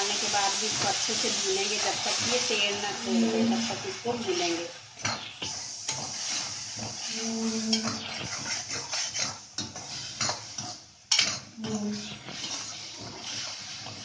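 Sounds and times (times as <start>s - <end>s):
masala sizzling in hot oil: 0.0s - 14.0s
metal spatula scraping a pan: 0.8s - 14.0s.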